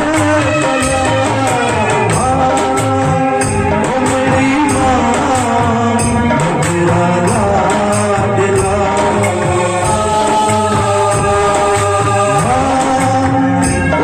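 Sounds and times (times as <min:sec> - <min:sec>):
music with percussion beat: 0:00.0 - 0:14.0.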